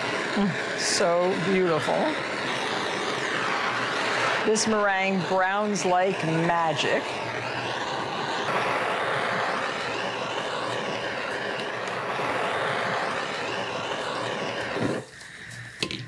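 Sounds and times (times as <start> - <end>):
blowtorch flame hissing: 0.0 - 16.0.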